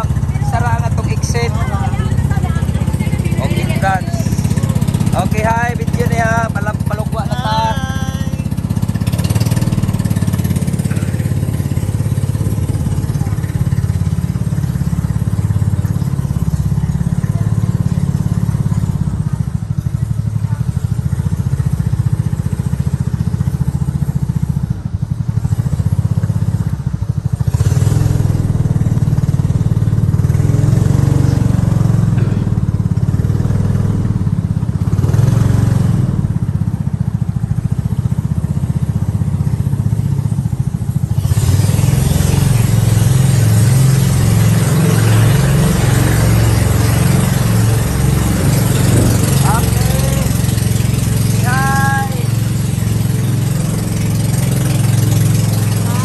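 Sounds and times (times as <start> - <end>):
small boat engine droning: 0.0 - 56.0.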